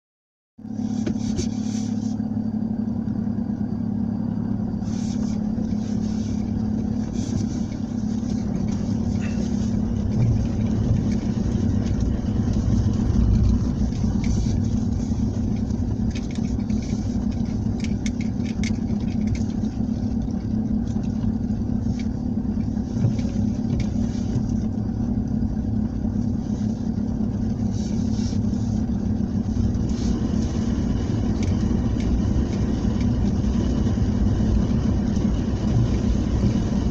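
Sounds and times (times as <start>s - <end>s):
vehicle engine running steadily: 0.6s - 36.9s.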